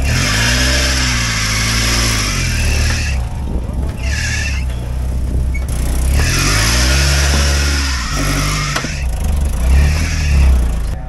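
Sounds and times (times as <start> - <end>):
engine revving under load: 0.0 - 11.0.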